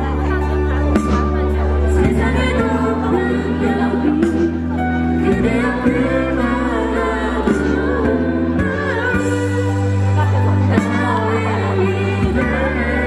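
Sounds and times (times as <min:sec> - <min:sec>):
low bass notes: 0:00.0 - 0:13.0
small vocal group singing: 0:00.0 - 0:13.0.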